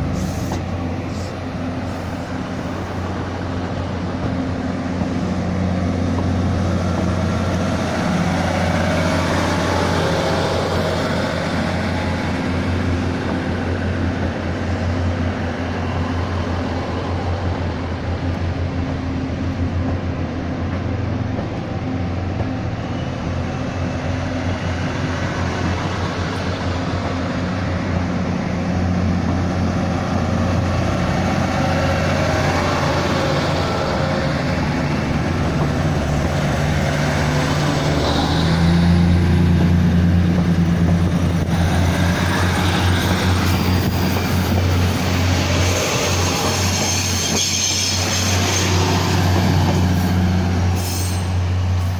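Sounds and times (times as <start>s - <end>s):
diesel train engines running: 0.0s - 51.9s
wheel-on-rail noise: 0.0s - 51.9s.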